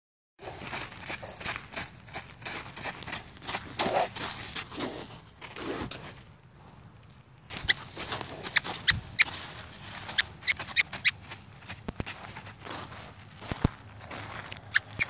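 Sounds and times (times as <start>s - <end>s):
hoofbeats on sand: 0.4s - 6.3s, 7.5s - 15.0s.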